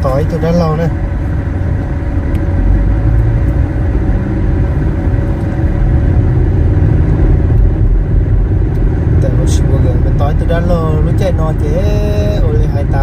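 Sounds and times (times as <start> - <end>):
motor vehicle running: 0.0 - 13.0.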